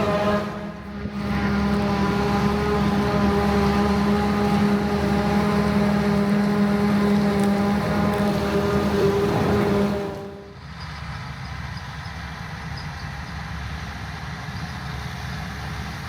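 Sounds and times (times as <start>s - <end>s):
diesel farm machinery running: 0.0s - 16.0s.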